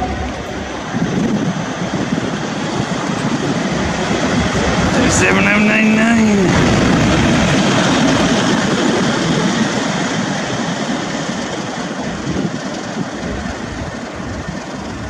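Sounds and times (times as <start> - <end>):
diesel locomotive passing: 0.0 - 15.0.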